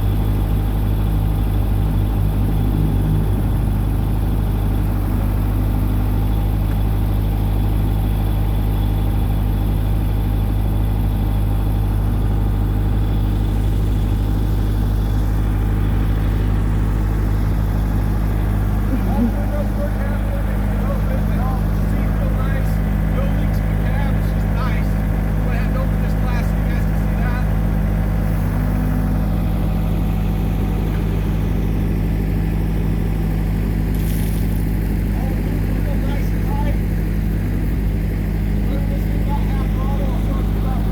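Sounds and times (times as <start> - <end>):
backhoe loader diesel engine: 0.0 - 40.9.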